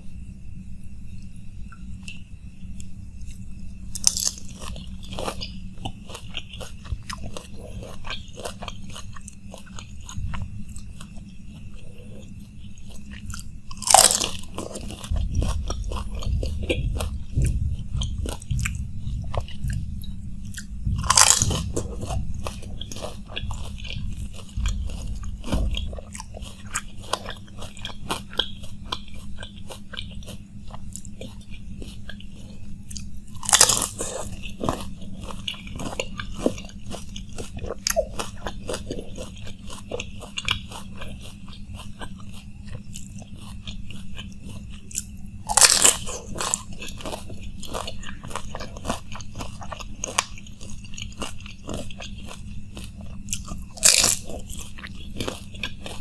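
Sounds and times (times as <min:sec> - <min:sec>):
crunching and chewing: 0:00.0 - 0:56.0.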